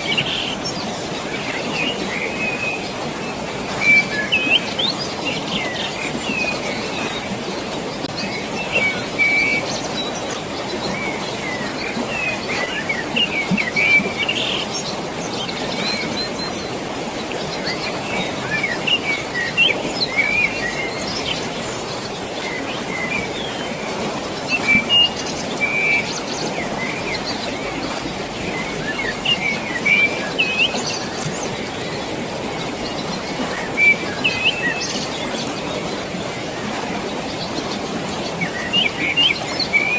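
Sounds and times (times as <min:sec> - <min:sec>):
birds chirping: 0:00.0 - 0:39.9
flowing water: 0:00.0 - 0:39.9.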